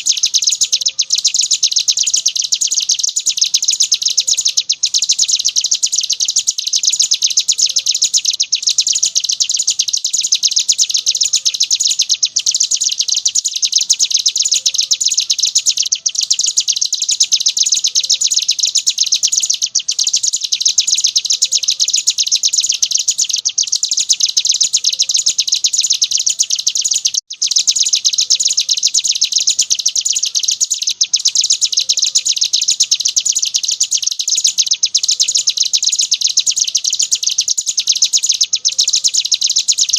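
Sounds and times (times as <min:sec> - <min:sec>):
bird fast high trill: 0:00.0 - 0:39.9.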